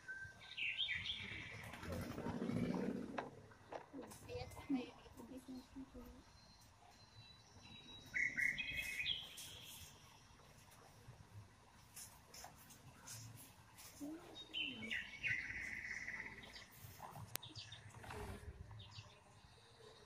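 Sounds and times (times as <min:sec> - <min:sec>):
birds chirping: 0:00.0 - 0:11.2, 0:11.9 - 0:20.0.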